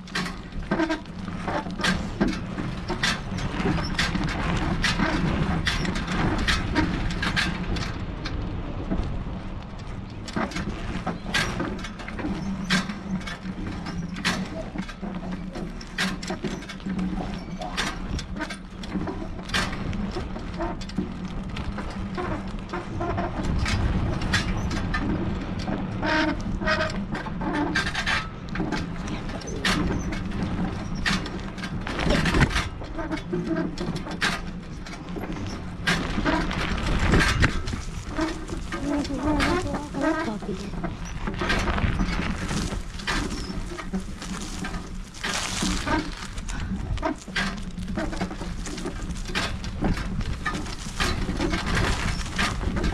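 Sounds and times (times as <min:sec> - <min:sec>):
bike frame rattling and knocking: 0:00.0 - 0:52.9
bike riding rumble: 0:00.0 - 0:52.9.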